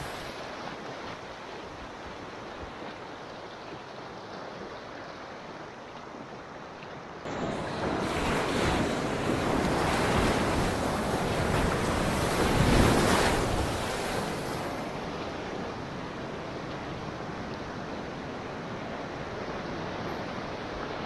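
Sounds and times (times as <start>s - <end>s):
river water splashing: 0.0s - 21.0s.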